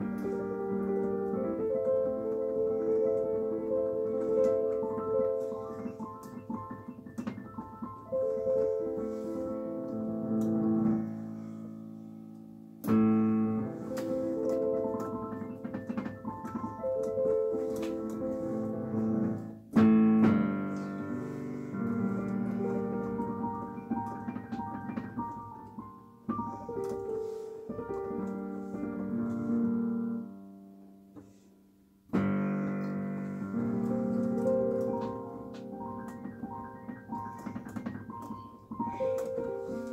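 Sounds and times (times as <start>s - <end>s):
piano chords and notes: 0.0s - 39.9s.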